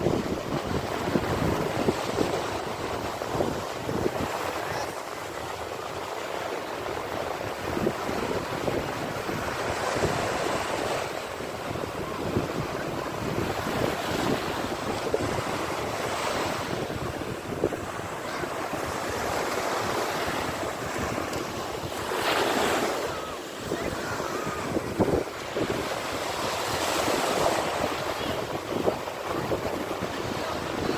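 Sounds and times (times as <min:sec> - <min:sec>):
sea waves washing on shore: 0:00.0 - 0:30.9
wind buffeting the microphone: 0:00.0 - 0:30.9.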